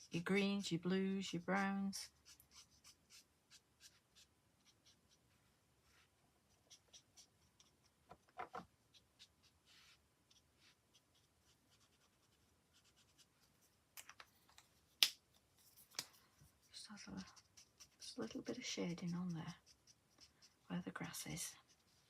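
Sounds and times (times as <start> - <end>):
colouring tool scratching card: 0.0 - 5.3, 5.9 - 13.4, 16.7 - 22.0.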